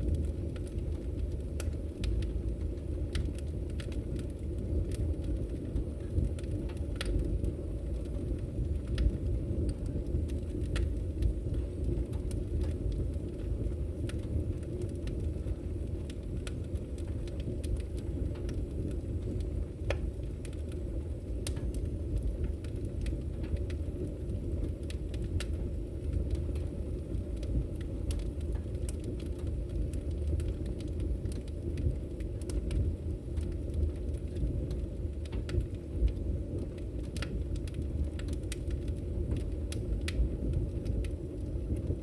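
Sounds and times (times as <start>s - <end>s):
fire crackling and popping: 0.0s - 42.0s
fire rumbling: 0.0s - 42.0s.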